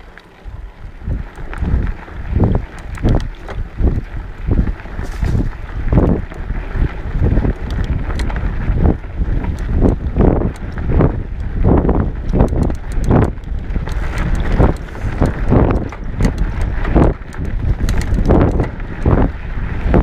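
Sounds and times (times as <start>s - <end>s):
wind and tyres rumbling: 0.0s - 20.0s.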